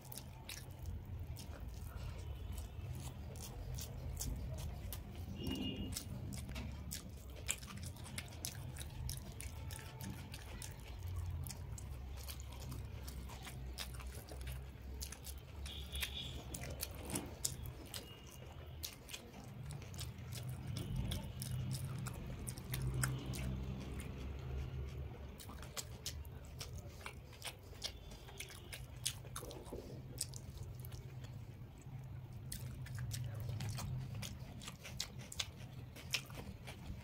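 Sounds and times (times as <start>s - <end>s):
close chewing of food: 0.0s - 37.0s
wet mouth clicks: 0.0s - 37.0s.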